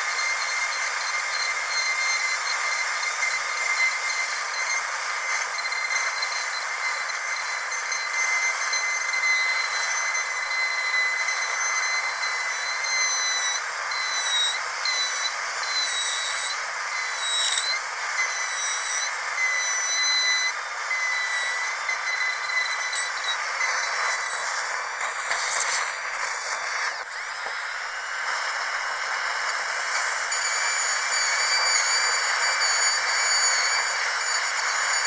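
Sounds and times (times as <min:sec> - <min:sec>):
dental drill whining: 0:00.0 - 0:35.0
hiss: 0:00.0 - 0:35.0.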